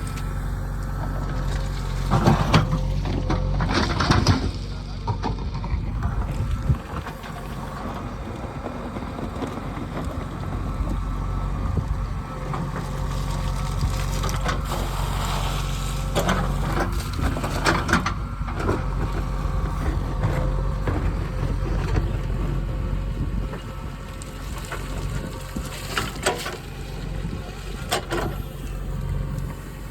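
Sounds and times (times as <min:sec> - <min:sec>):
diesel machinery running: 0:00.0 - 0:29.9.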